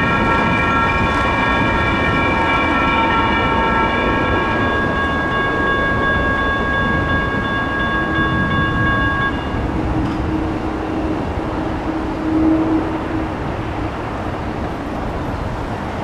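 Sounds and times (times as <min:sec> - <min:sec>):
crossing bell ringing: 0:00.0 - 0:14.6
road traffic: 0:00.0 - 0:16.0
wind noise: 0:00.0 - 0:16.0.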